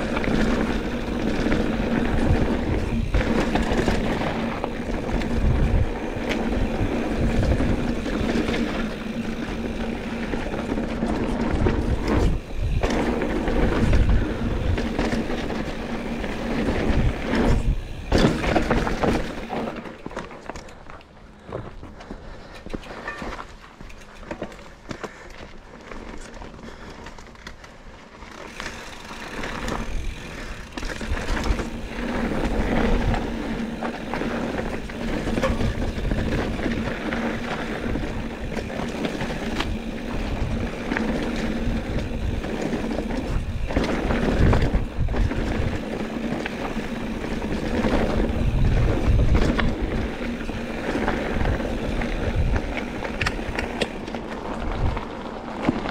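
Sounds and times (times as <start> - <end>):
bike knocking: 0.0 - 25.6, 28.5 - 54.5
bike tyres on dirt: 0.0 - 55.9.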